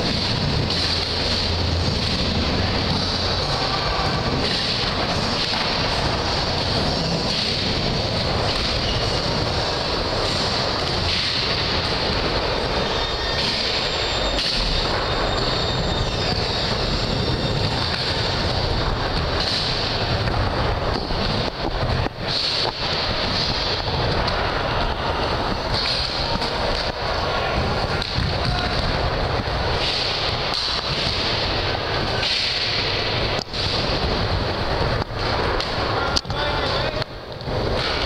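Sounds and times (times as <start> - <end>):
skateboard wheels rolling on wood: 0.0 - 38.0.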